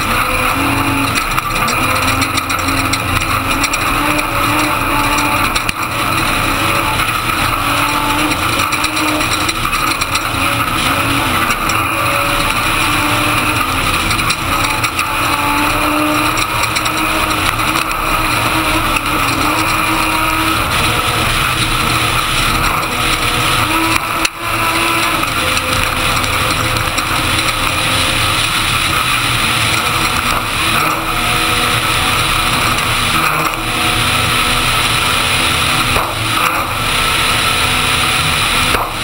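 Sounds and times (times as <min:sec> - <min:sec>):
off-road noise: 0:00.0 - 0:39.0
truck engine running hard: 0:00.0 - 0:39.0.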